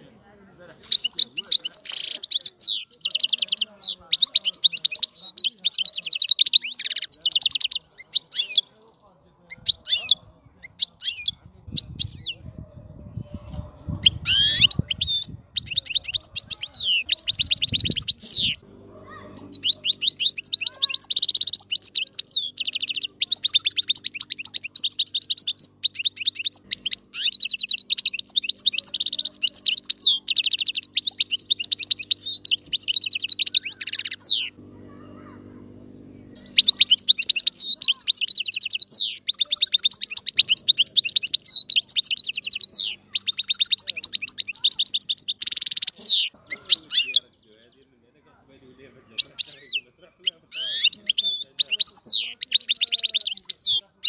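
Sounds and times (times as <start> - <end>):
goldfinch singing: 0.0 - 12.4, 13.4 - 47.9, 48.8 - 54.0.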